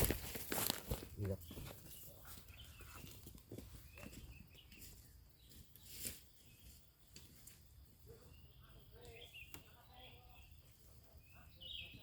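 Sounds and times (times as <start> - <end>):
faint outdoor ambience: 0.0 - 12.0
faint bird chirps: 1.2 - 12.0.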